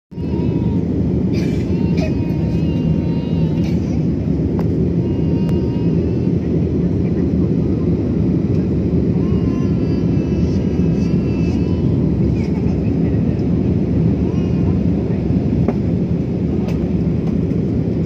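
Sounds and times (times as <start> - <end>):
airliner cabin engine rumble: 0.1 - 18.0.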